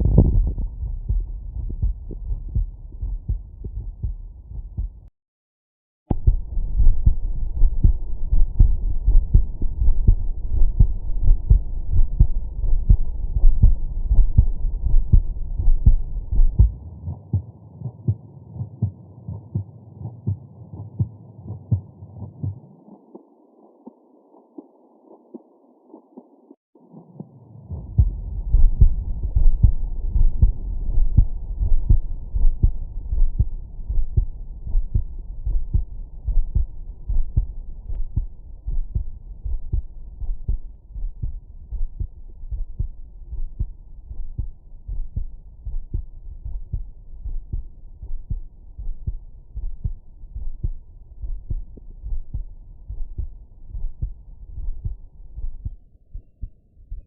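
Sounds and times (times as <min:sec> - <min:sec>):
heartbeat through stethoscope: 0:00.0 - 0:05.1, 0:06.1 - 0:26.3, 0:26.9 - 0:57.0
low rumble: 0:00.0 - 0:05.1, 0:06.1 - 0:22.8, 0:27.0 - 0:57.0.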